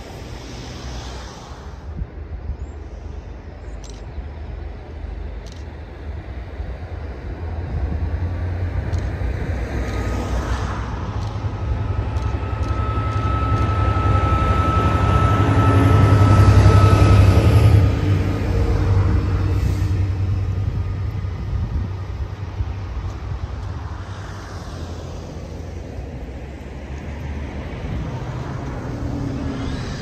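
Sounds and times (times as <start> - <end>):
diesel locomotive engine rumble: 0.0 - 30.0
high whine: 0.0 - 30.0.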